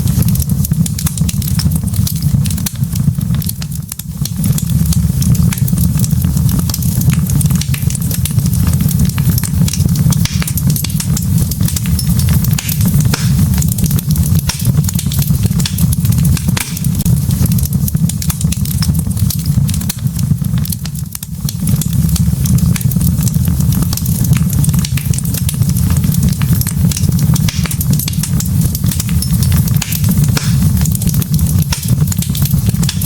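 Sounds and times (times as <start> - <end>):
log fire crackling and popping: 0.0 - 33.0
low rumble of flames: 0.0 - 33.0.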